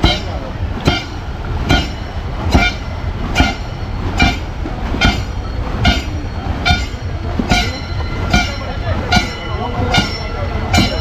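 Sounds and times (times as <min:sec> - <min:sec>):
paddle strokes: 0:00.0 - 0:11.0.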